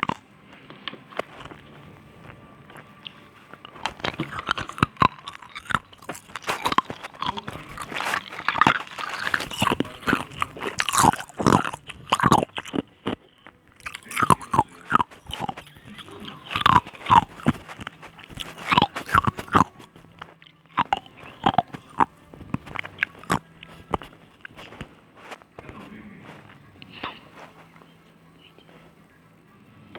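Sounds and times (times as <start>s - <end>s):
ice cubes crunching in mouth: 0.0s - 27.8s.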